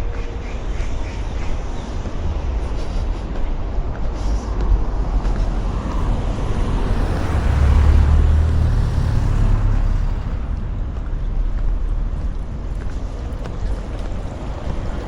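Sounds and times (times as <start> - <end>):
vehicle passing rumble: 1.6 - 15.0.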